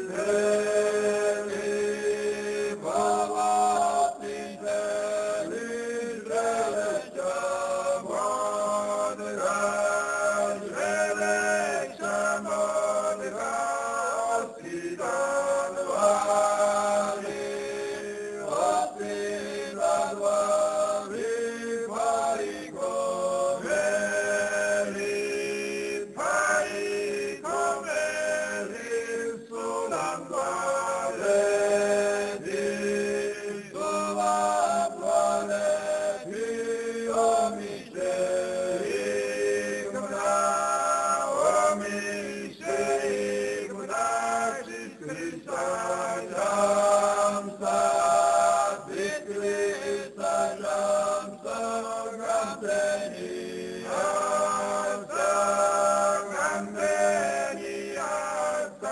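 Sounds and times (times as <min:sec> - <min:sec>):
male choir chanting: 0:00.0 - 0:58.9.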